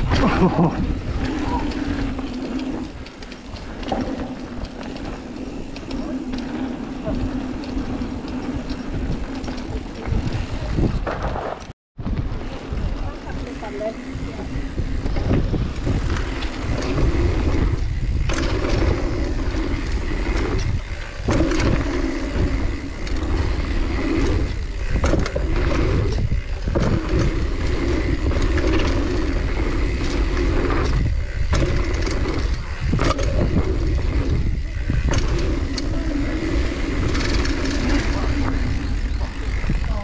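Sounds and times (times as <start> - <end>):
bike rattling over bumps: 0.0 - 40.0
bike tyres on dirt trail: 0.0 - 40.0
wind noise: 0.0 - 40.0.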